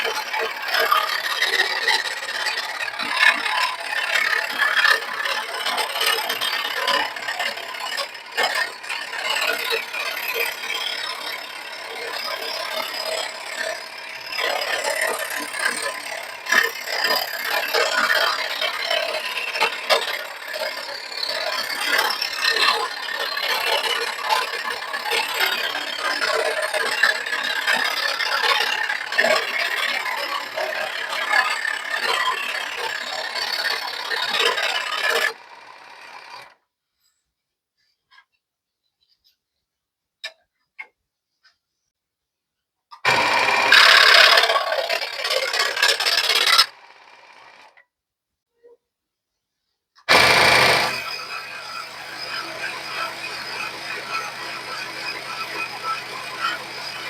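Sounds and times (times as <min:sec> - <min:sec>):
scroll saw rattling: 0:00.0 - 0:36.5, 0:43.1 - 0:47.8, 0:50.1 - 0:57.0.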